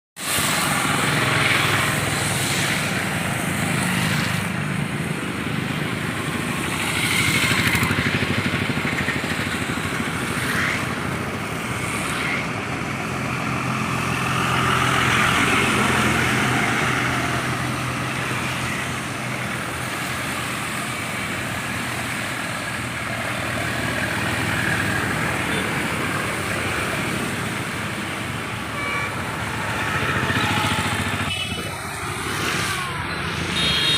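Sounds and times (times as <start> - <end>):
bus engine hum: 0.2 - 33.9
road and tyre noise: 0.2 - 33.9.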